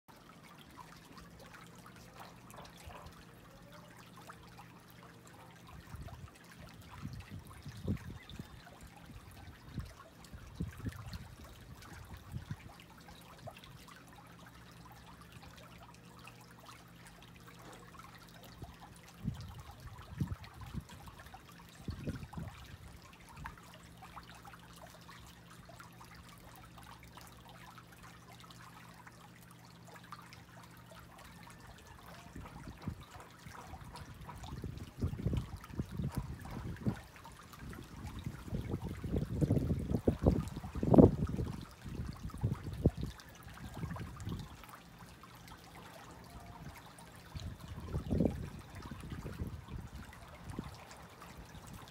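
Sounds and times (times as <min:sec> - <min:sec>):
faint trickle of liquid: 0:00.1 - 0:51.9.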